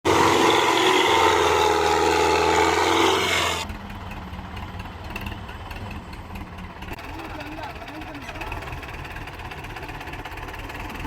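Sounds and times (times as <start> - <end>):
loud engine running: 0.0 - 11.0
tractor diesel engine idling: 0.0 - 11.0.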